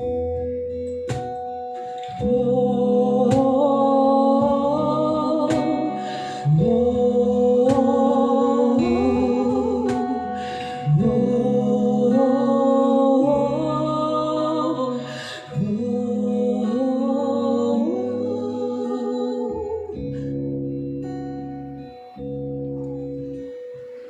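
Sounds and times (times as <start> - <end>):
instrumental music with chords: 0.0 - 24.0.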